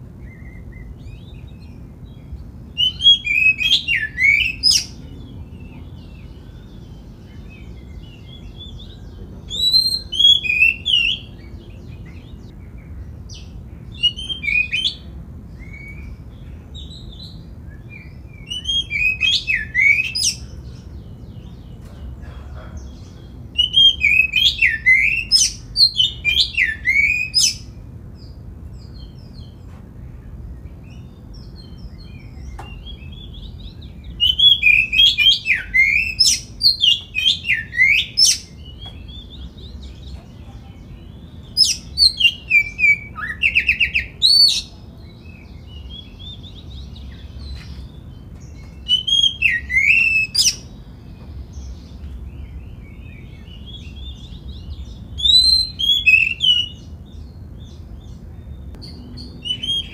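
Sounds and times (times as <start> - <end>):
bird singing whistled notes: 0.2 - 21.7, 23.6 - 29.6, 30.8 - 50.8, 51.5 - 59.9
sharp upswept bird chirps: 0.2 - 22.0, 30.8 - 59.9.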